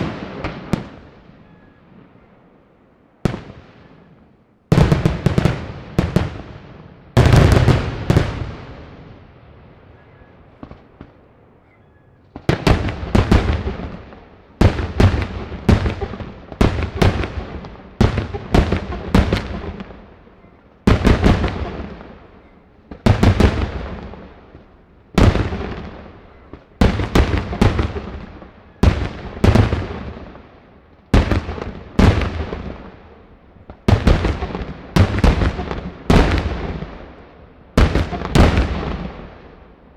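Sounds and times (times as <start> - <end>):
fireworks bangs with echo: 0.0 - 2.4, 3.1 - 39.8.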